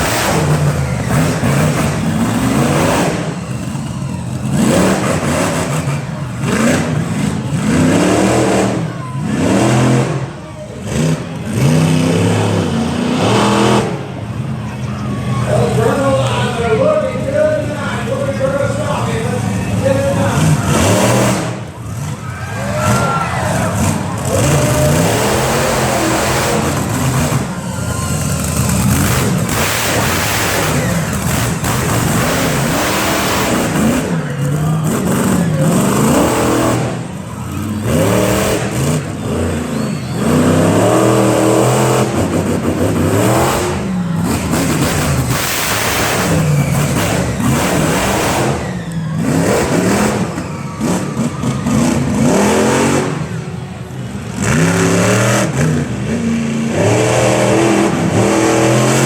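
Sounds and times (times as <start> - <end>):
truck engine revving hard: 0.0 - 59.0.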